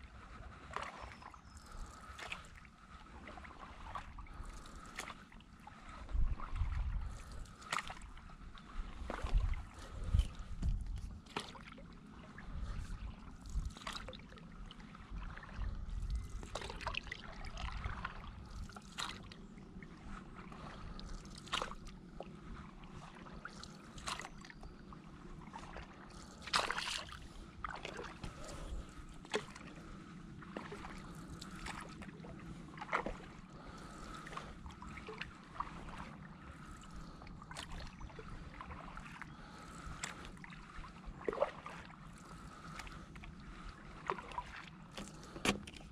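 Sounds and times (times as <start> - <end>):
paddle splashing in water: 0.3 - 45.9.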